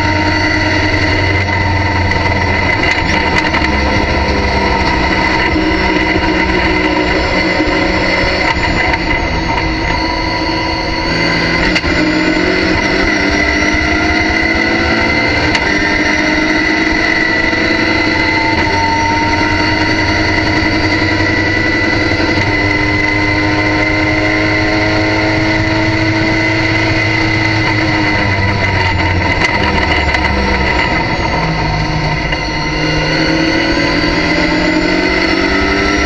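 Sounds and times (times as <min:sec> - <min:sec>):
racing car engine at full throttle: 0:00.0 - 0:36.0.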